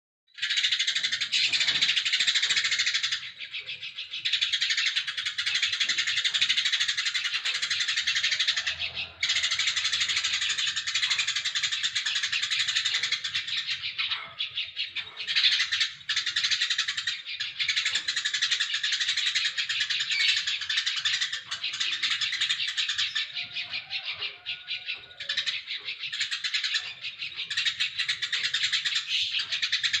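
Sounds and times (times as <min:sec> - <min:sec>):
sparrow chirping: 0:00.4 - 0:30.0.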